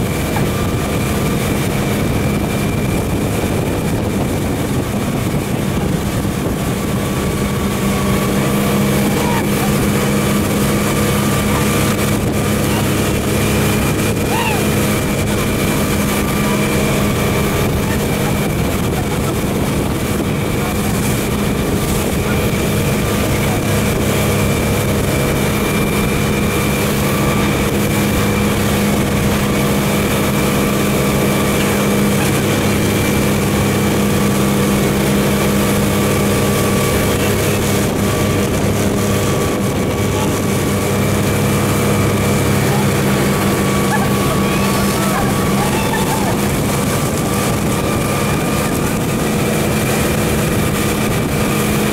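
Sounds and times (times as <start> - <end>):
motorboat engine running: 0.0 - 51.9.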